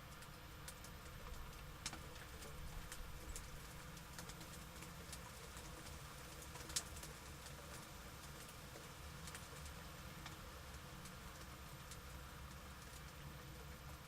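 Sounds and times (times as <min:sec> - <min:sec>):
raindrops ticking on a hard surface: 0:00.0 - 0:14.0.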